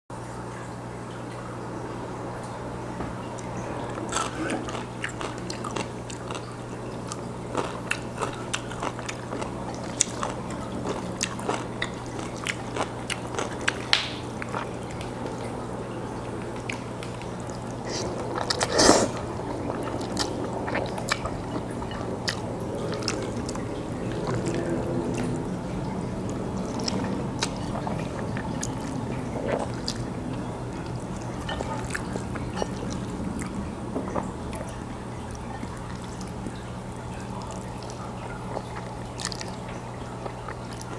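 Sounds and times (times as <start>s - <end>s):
man chewing noodles: 3.3s - 40.9s.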